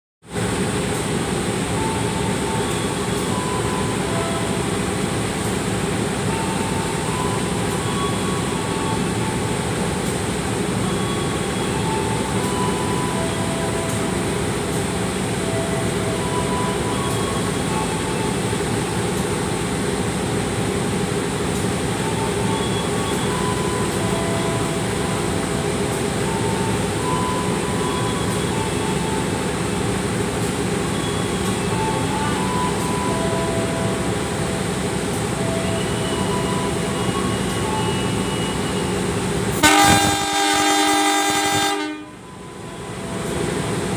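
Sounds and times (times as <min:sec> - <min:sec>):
diesel locomotive idling: 0:00.3 - 0:43.9.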